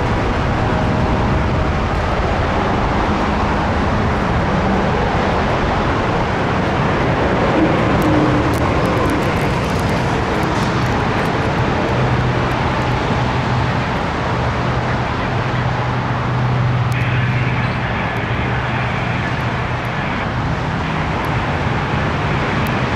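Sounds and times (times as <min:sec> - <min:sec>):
diesel locomotive drone: 0:00.0 - 0:22.9
train and road noise: 0:00.0 - 0:22.9.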